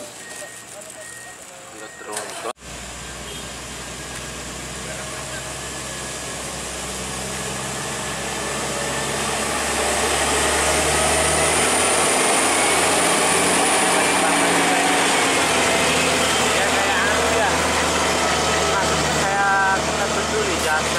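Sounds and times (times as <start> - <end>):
truck diesel engine pulling uphill: 2.5 - 20.9.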